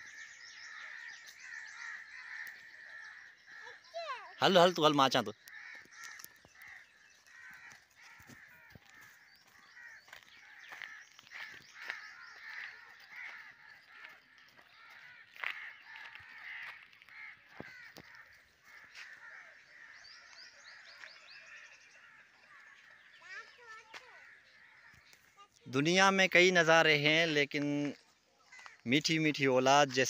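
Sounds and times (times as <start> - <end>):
birds chirping and cawing: 0.0 - 30.0.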